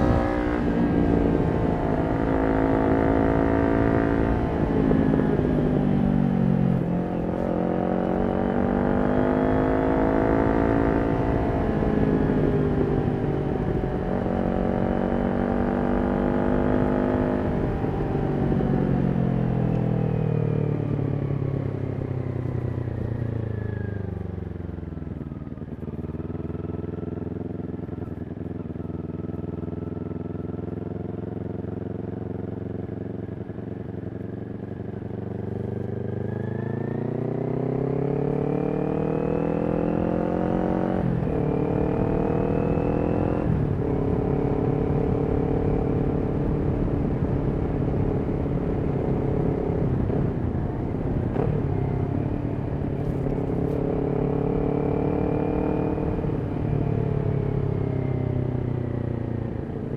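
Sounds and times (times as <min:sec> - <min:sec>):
motorcycle engine revving: 0:00.0 - 0:19.8, 0:25.6 - 0:59.9.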